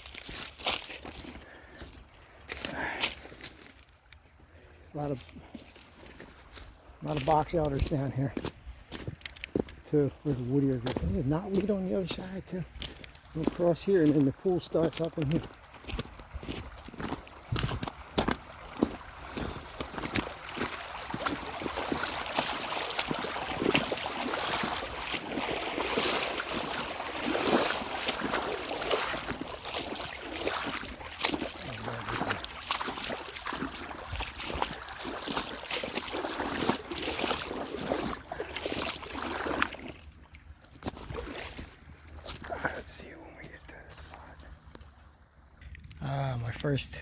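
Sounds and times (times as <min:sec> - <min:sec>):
water splashing around legs: 0:00.0 - 0:47.0.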